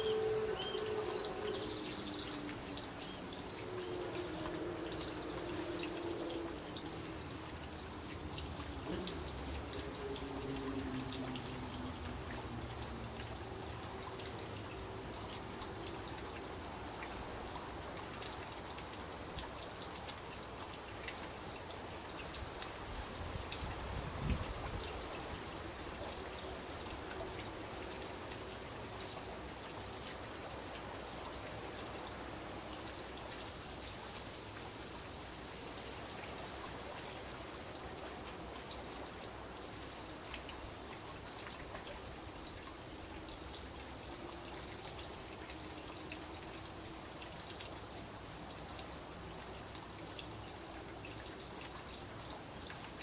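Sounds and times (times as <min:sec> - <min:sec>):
fountain water splashing and dripping: 0:00.0 - 0:53.0.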